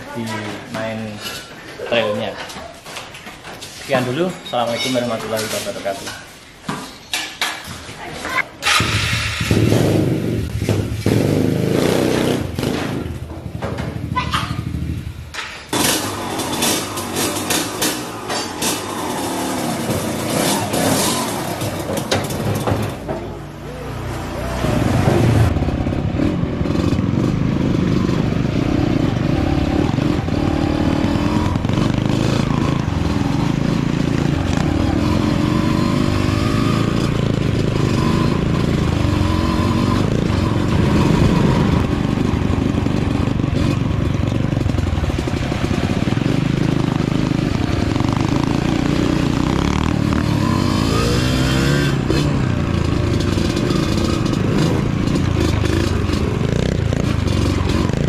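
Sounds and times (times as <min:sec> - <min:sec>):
dirt bike engines revving: 0:08.6 - 0:58.0.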